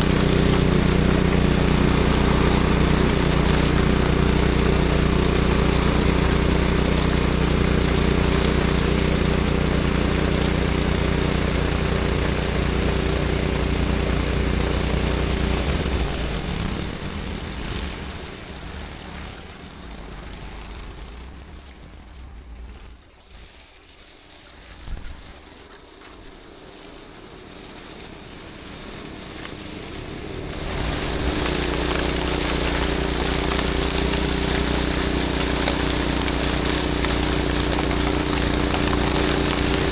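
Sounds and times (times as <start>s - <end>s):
snowblower engine running: 0.0s - 23.2s, 25.4s - 39.9s.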